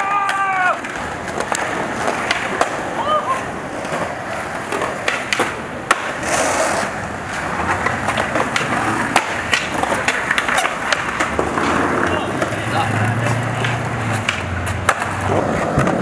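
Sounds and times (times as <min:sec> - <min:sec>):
skateboard clacking: 0:00.0 - 0:16.0
skateboard wheels rolling on concrete: 0:00.0 - 0:16.0.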